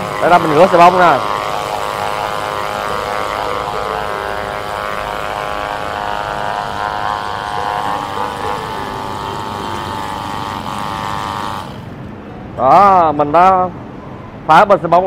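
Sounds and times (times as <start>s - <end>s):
pressure washer running: 0.0s - 12.1s.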